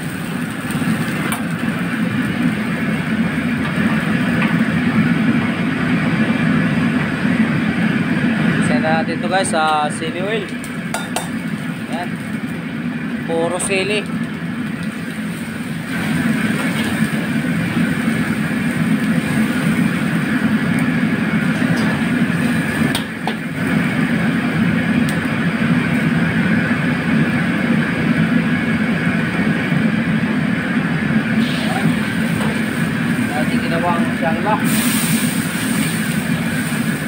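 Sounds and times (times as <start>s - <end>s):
food frying in oil: 0.0s - 7.2s, 9.9s - 26.6s, 31.2s - 37.0s
wok burner roaring: 0.0s - 37.0s.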